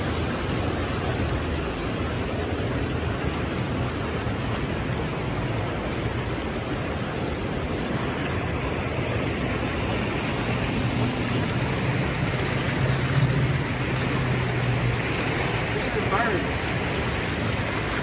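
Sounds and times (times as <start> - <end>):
churning white water rushing: 0.0 - 18.0.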